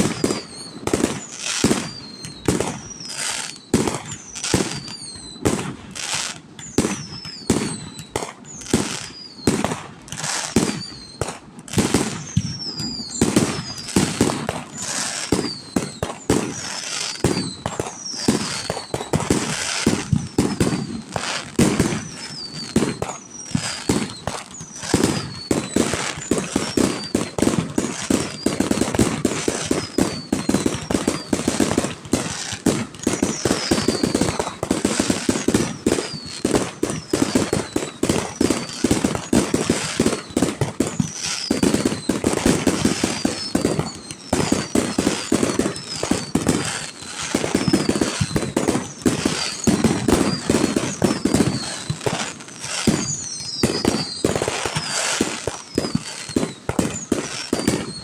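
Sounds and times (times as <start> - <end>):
falling fireworks whistles: 0.0 - 58.0
fireworks bangs and crackling: 0.0 - 58.0.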